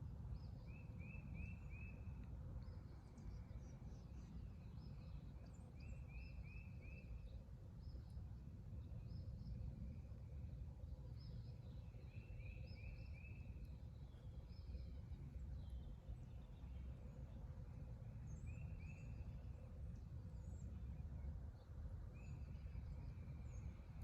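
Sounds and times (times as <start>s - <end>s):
songbirds chirping: 0.2s - 24.0s.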